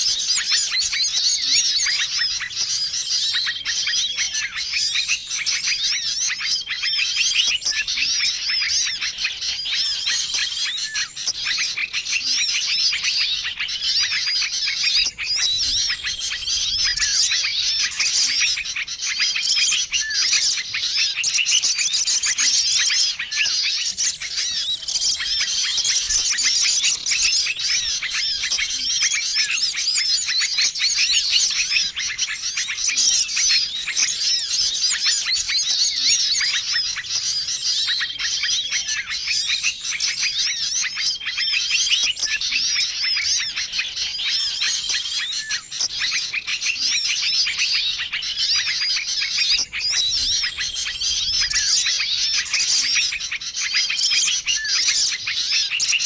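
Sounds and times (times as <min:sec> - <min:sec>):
songbirds chirping chorus: 0:00.0 - 0:56.0.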